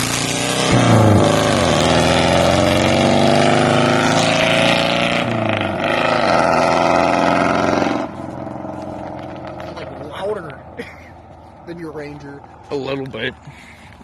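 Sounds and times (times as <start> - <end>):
engine accelerating: 0.0 - 14.0.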